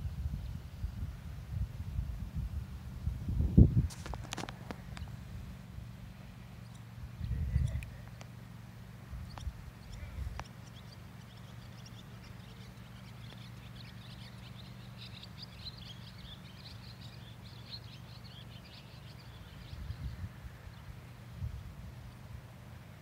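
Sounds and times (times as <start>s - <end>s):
low steady hum: 0.0s - 23.0s
birds chirping: 3.9s - 23.0s.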